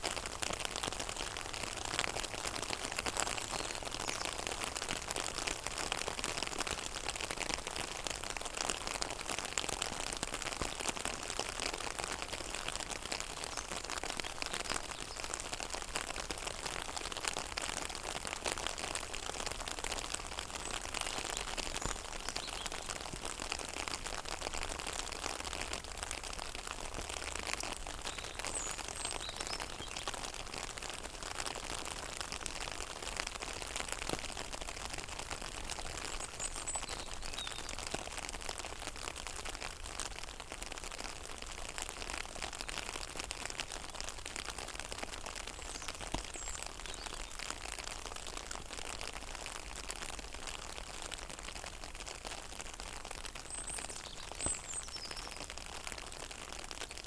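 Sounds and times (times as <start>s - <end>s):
rain falling on water: 0.0s - 57.0s.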